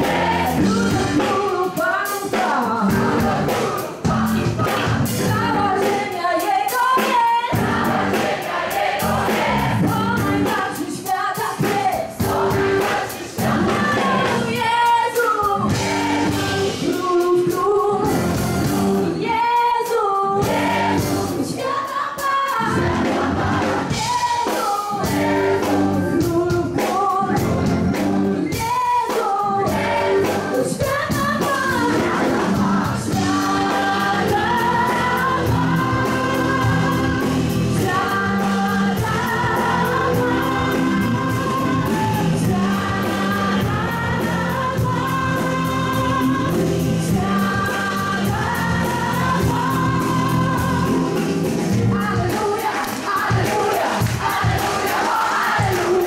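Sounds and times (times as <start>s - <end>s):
women and choir singing: 0.0s - 18.2s, 19.0s - 27.4s, 28.4s - 51.3s, 51.9s - 56.0s
band playing: 0.0s - 19.6s, 20.4s - 56.0s.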